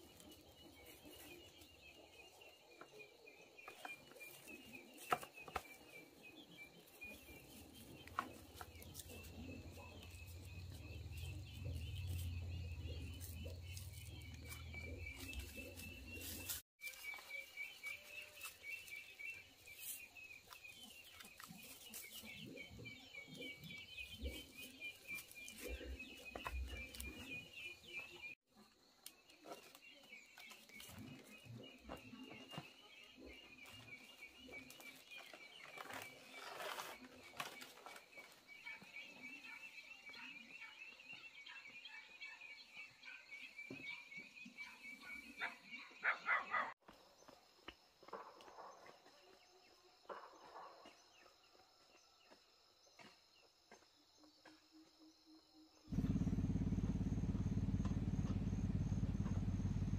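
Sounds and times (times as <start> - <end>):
birds chirping: 0.0 - 28.4, 29.3 - 46.8, 55.9 - 59.9.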